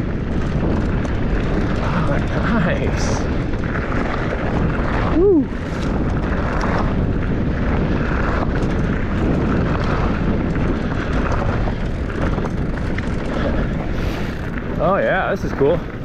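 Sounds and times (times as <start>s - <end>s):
bike clicks and rattles: 0.0s - 16.0s
tyres rolling over dirt: 0.0s - 16.0s
wind rushing over microphone: 0.0s - 16.0s.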